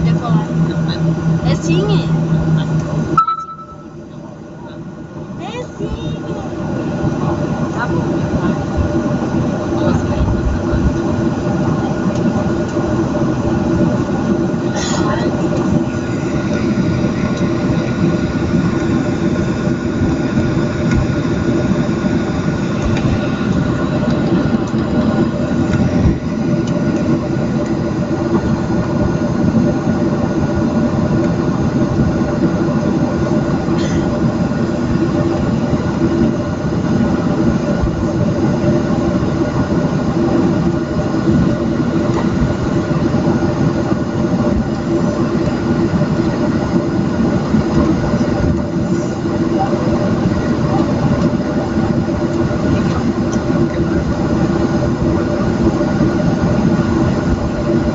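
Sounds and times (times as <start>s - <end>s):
jet engines rumbling and whining: 0.0s - 57.9s.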